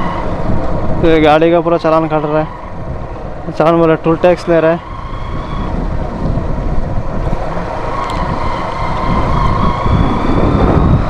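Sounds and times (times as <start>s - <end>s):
road traffic noise: 0.0s - 11.0s
vehicle engine: 0.0s - 11.0s
wind buffeting microphone: 0.0s - 11.0s.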